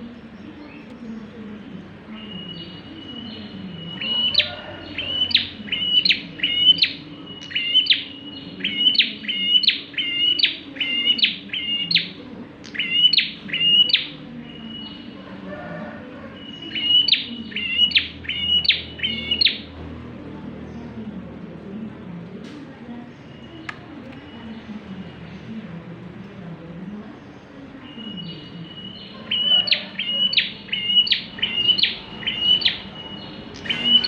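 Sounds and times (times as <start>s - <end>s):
prinia singing: 0.0s - 15.5s, 16.2s - 19.8s, 22.9s - 34.0s.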